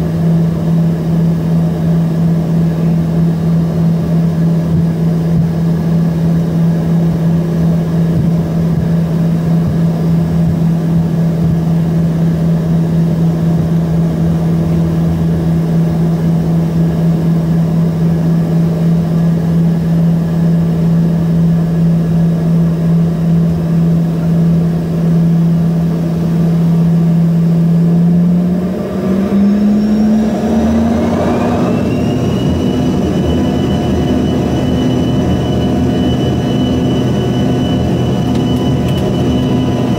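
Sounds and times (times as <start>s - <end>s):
jet engines humming in cabin: 0.0s - 39.9s
jet engines spooling up whine: 0.0s - 39.9s.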